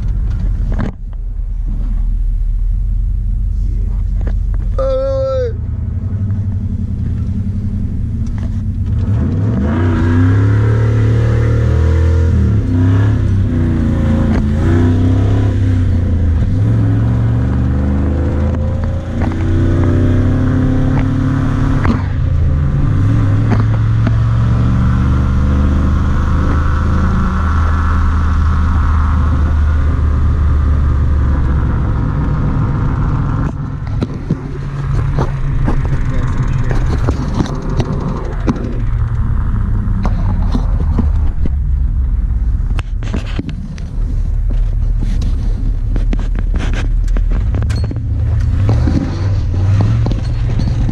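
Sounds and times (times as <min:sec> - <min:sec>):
truck engine accelerating through gears: 0:00.0 - 0:50.9.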